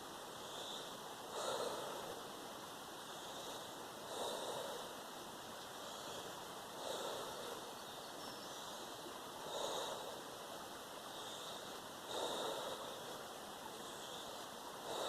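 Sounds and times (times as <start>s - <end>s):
steady background hiss: 0.0s - 15.0s
person breathing deeply: 0.3s - 2.3s, 3.0s - 5.0s, 5.7s - 7.8s, 8.6s - 15.0s.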